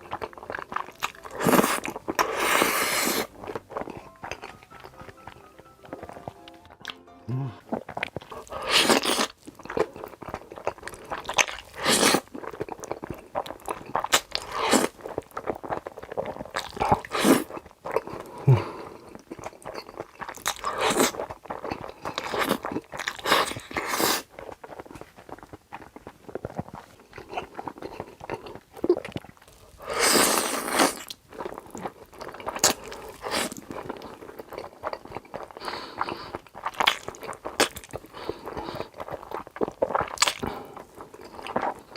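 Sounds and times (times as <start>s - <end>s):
crunchy chewing: 0.0s - 7.0s, 7.7s - 41.9s.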